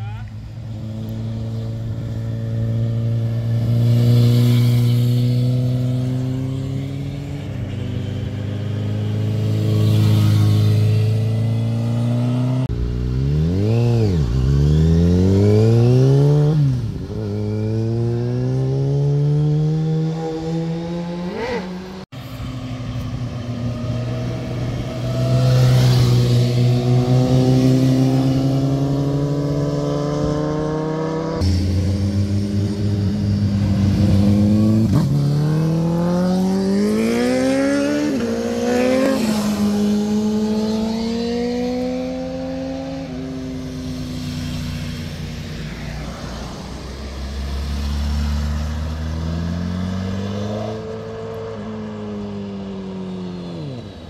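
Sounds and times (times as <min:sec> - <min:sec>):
motorcycle engines accelerating: 0:00.0 - 0:54.0.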